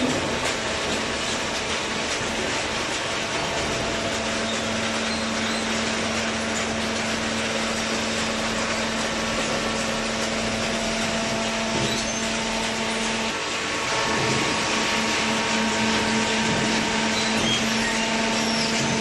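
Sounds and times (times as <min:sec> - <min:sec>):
baler machinery running: 0:00.0 - 0:19.0.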